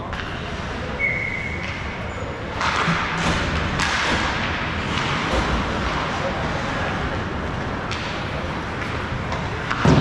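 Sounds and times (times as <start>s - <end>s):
puck and sticks hitting boards: 0.0s - 0.4s, 1.6s - 10.0s.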